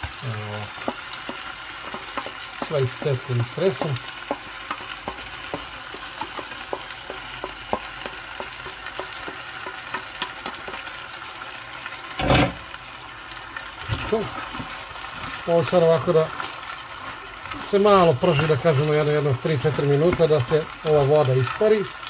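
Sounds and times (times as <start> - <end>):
potatoes sizzling in oil: 0.0 - 22.0
small crackles: 0.0 - 22.0.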